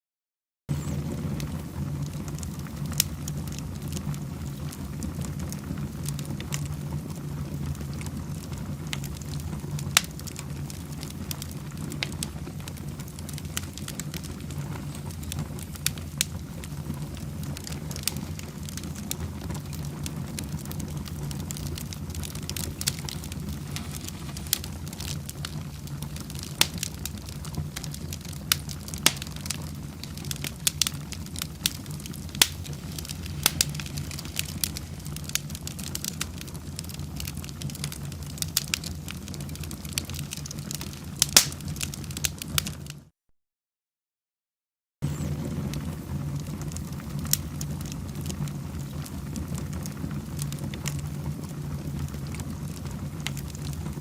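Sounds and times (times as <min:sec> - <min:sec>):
fire crackling and popping: 0:00.7 - 0:43.1, 0:45.0 - 0:54.0
fire flames rumbling: 0:00.7 - 0:43.1, 0:45.0 - 0:54.0.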